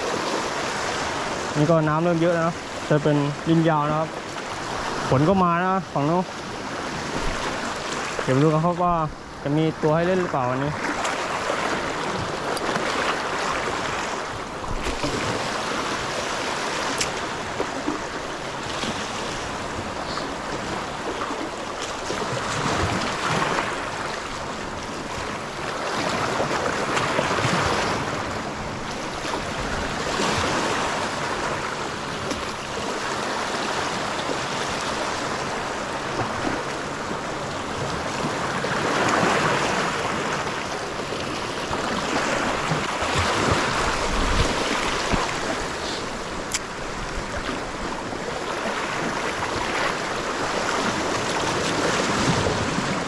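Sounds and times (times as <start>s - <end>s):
waves washing against shore: 0.0s - 53.0s.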